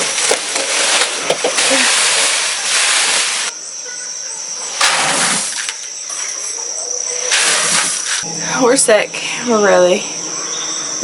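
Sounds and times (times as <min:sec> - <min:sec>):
high-pitched insect trill: 0:01.5 - 0:11.0.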